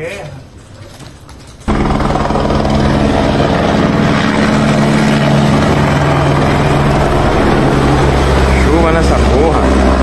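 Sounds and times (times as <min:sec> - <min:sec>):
loud engine drone: 0:01.7 - 0:10.0.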